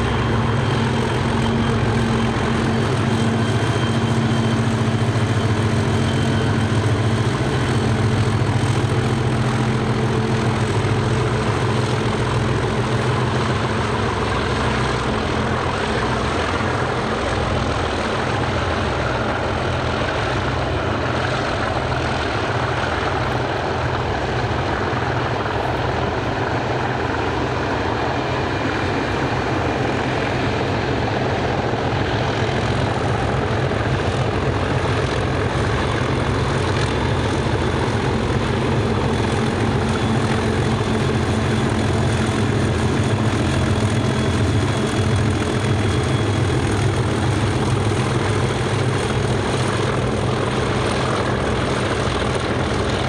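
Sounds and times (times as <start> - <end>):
diesel locomotive engines thrashing: 0.0 - 53.0.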